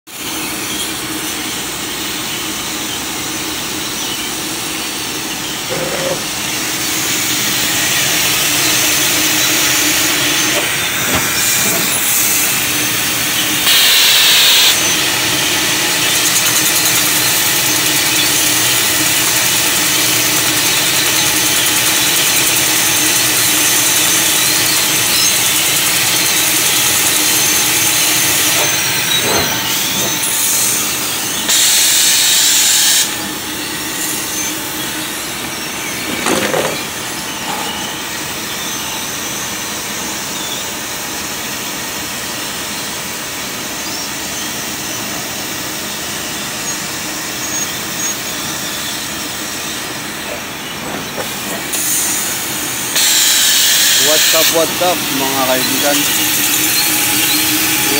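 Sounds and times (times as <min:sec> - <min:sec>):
laser cutter gas hiss: 0:00.2 - 0:40.5, 0:51.2 - 0:57.9.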